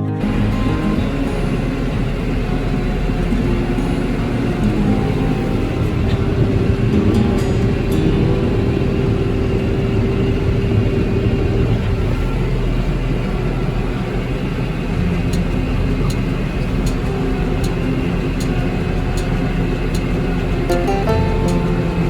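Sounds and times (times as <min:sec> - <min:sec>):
background music: 0:00.0 - 0:22.0
vehicle engine rumbling: 0:00.0 - 0:22.0
light ticking: 0:00.2 - 0:22.0.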